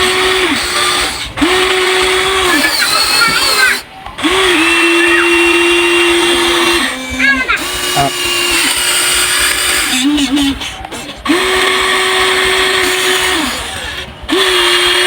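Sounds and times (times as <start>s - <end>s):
toy excavator electric motors whining: 0.0s - 15.0s.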